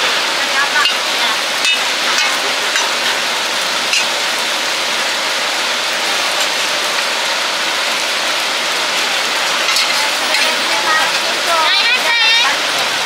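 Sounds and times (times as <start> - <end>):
batter sizzling on a griddle: 1.6 - 12.6.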